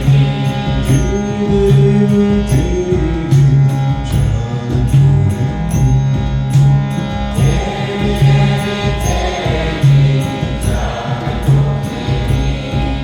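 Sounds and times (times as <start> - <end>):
instrumental drone: 0.0 - 13.0
repeating low beat: 0.0 - 13.0.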